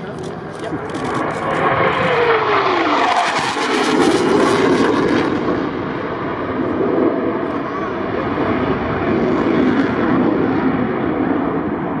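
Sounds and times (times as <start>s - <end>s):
jet passing low overhead: 0.0s - 12.0s.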